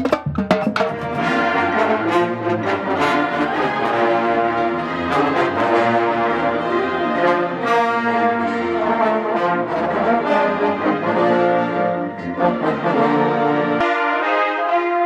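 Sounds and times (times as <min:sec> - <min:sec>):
wind band playing sustained chords: 0:00.7 - 0:15.0.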